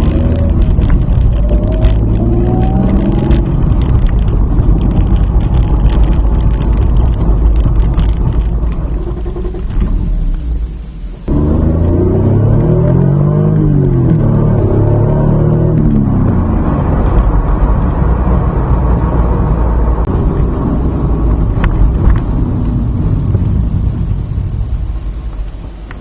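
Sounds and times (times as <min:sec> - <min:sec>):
car engine while driving: 0:00.0 - 0:26.0
road noise: 0:00.0 - 0:26.0.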